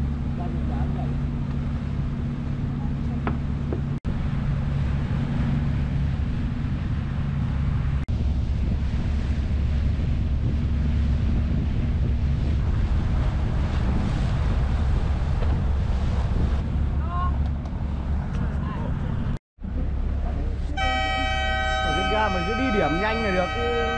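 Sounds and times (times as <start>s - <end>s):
wind buffeting microphone: 0.0s - 19.4s
boat engine drone: 0.0s - 23.9s
water washing along hull: 0.0s - 23.9s.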